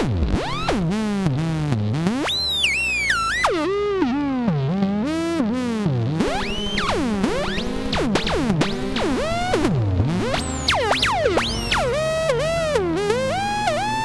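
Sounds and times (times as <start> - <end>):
gliding synthesizer tone: 2.0 - 14.0.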